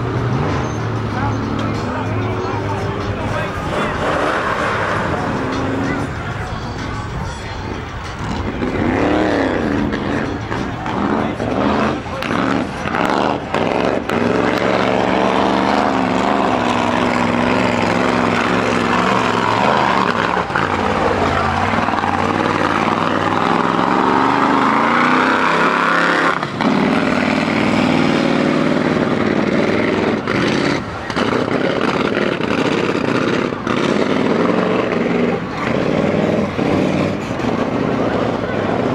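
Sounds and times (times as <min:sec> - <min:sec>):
truck engine at full throttle: 0:00.0 - 0:38.9.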